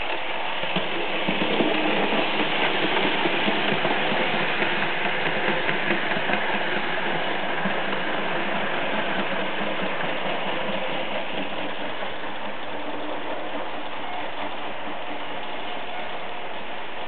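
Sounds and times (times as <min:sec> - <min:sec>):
model train rolling whir: 0:00.0 - 0:17.0.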